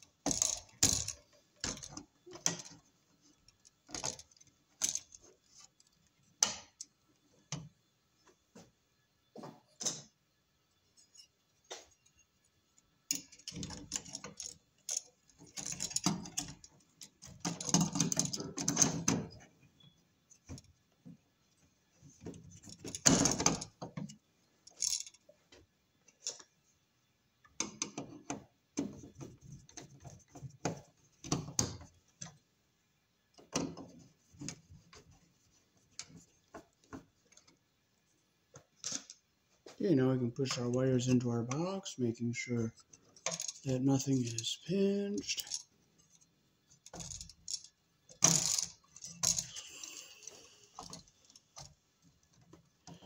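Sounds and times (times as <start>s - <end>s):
wires rustling and scraping: 0.0s - 8.8s, 10.7s - 26.8s, 27.4s - 32.5s, 33.3s - 53.0s.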